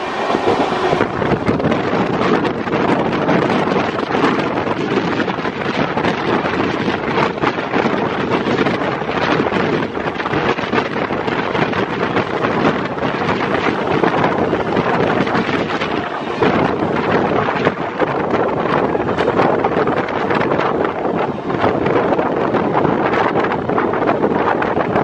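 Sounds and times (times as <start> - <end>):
train running at speed: 0.0 - 25.0
wind rushing over microphone: 0.0 - 25.0.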